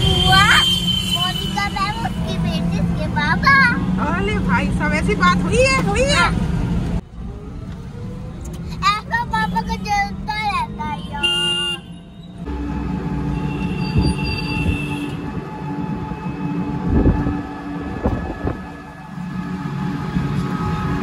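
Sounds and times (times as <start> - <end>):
electric rickshaw rumbling: 0.0 - 21.0.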